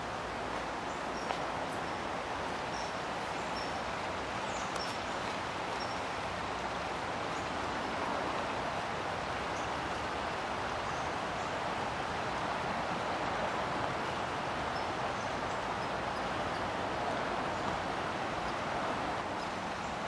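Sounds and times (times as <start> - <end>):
brook water running: 0.0 - 20.0.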